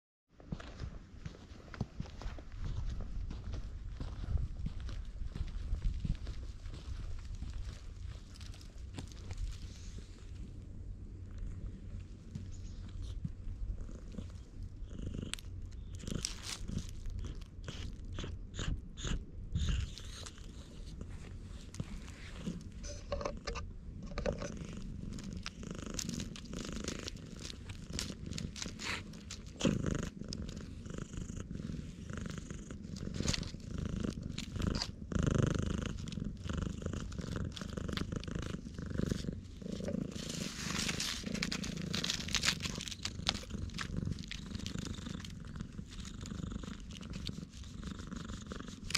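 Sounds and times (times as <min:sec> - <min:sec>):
rustles and clicks: 0:00.6 - 0:18.0, 0:19.8 - 0:48.9
cat purring: 0:02.5 - 0:48.9.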